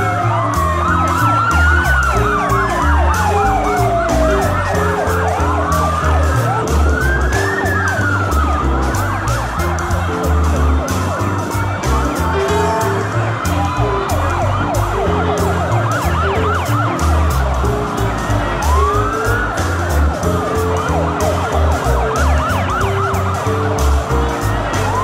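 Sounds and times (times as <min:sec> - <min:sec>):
emergency sirens wailing: 0:00.0 - 0:25.0
low steady notes: 0:00.0 - 0:25.0
music: 0:00.0 - 0:25.0
sirens yelping: 0:00.0 - 0:25.0.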